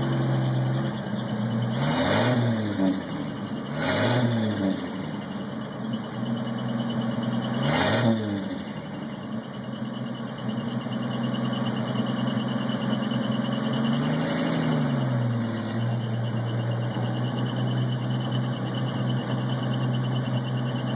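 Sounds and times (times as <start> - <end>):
truck engine idling and revving: 0.0 - 20.9.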